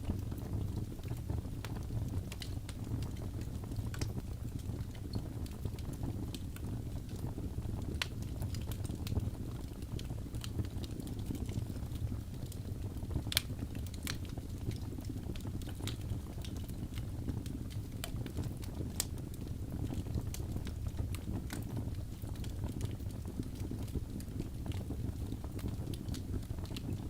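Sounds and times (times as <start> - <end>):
fire flames rumbling: 0.0 - 27.0
logs crackling and popping: 0.0 - 27.0.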